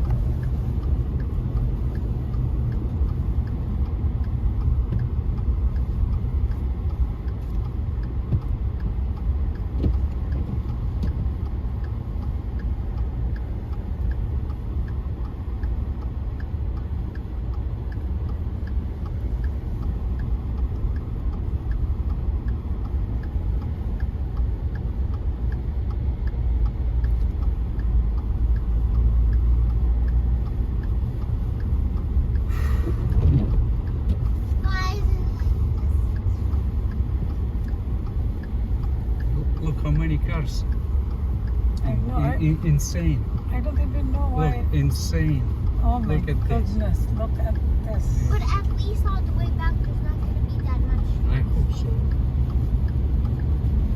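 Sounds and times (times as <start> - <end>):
car driving on snowy road: 0.0 - 53.9
faint regular ticking: 0.0 - 53.9.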